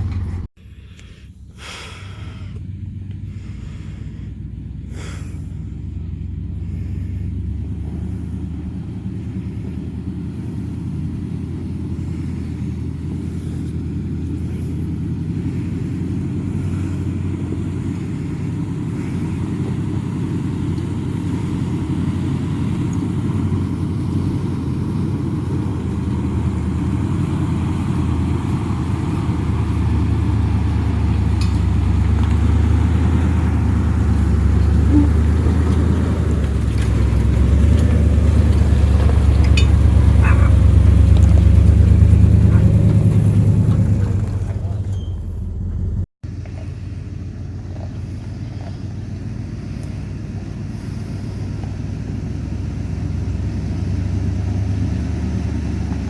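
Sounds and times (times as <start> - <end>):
road rumble: 0.0 - 56.0
truck engine drone: 0.0 - 56.0.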